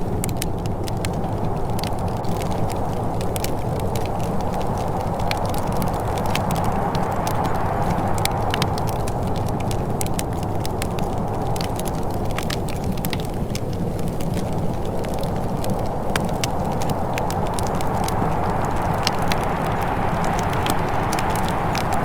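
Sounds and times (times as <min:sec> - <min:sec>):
low rumble of flames: 0:00.0 - 0:22.0
sharp snaps of fire: 0:00.0 - 0:22.0
wood fire crackling and popping: 0:00.0 - 0:22.0.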